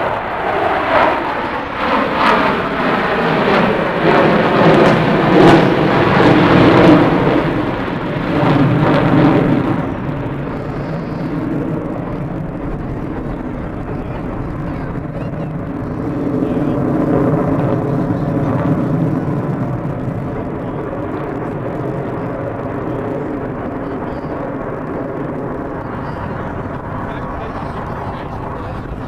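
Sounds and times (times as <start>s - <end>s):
aircraft roaring past: 0.0s - 29.0s.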